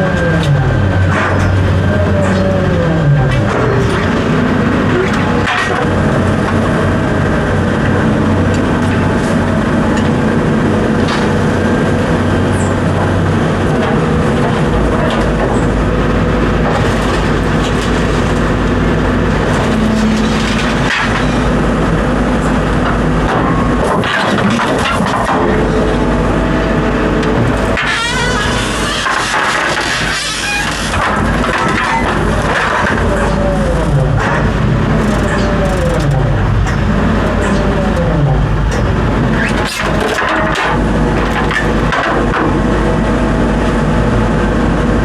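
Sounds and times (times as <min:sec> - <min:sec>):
rattles and clicks: 0:00.0 - 0:10.2, 0:10.9 - 0:42.7
machine rumbling: 0:00.0 - 0:45.0.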